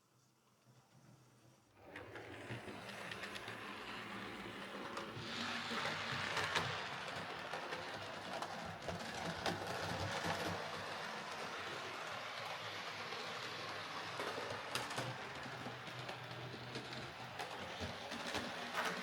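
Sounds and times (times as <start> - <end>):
model train motor whirring: 1.8 - 19.0.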